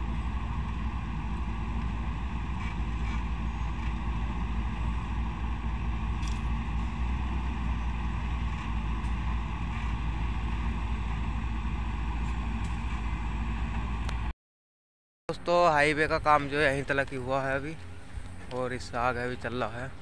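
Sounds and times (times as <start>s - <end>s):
heavy machinery engines droning: 0.0s - 14.3s, 15.3s - 20.0s.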